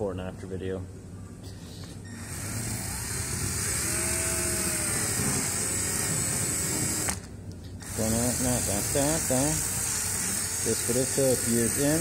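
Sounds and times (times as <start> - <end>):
drill wire brush whirring: 2.1 - 12.0.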